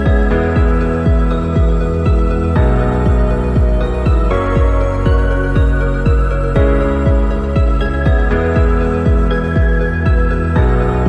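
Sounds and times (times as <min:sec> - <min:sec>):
held synth chords: 0:00.0 - 0:11.0
kick drum: 0:00.0 - 0:11.0
mellow electronic music: 0:00.0 - 0:11.0.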